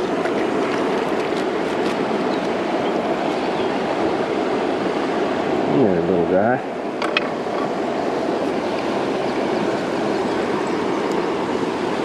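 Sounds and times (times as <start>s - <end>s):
river flowing over rocks: 0.0s - 12.0s.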